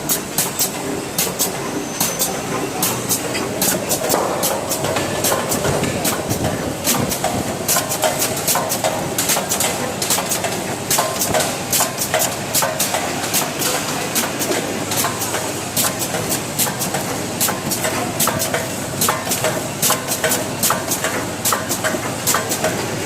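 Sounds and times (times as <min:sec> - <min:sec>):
packing machine clattering: 0:00.1 - 0:23.0.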